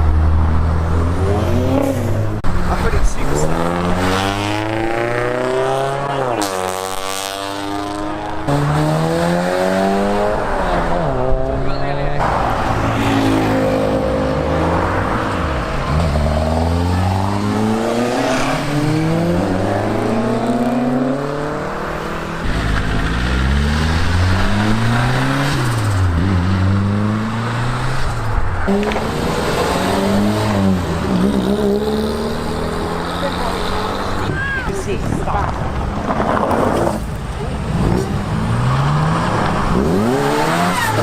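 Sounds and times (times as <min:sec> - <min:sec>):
car engines accelerating: 0:00.0 - 0:41.0.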